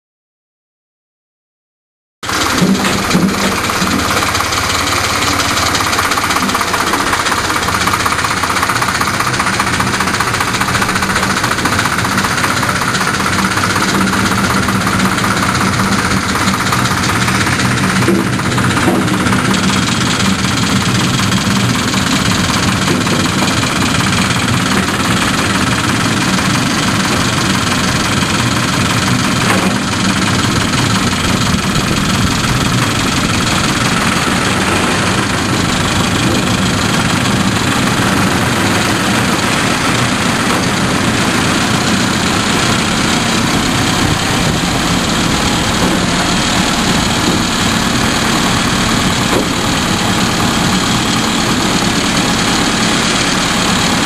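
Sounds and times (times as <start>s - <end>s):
diesel engine running: 2.2s - 54.0s
train running on track: 2.2s - 54.0s.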